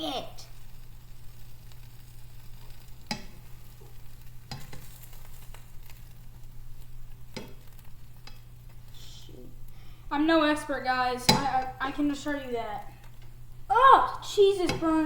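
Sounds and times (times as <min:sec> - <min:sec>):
sandwich sizzling in frying pan: 0:00.0 - 0:15.0.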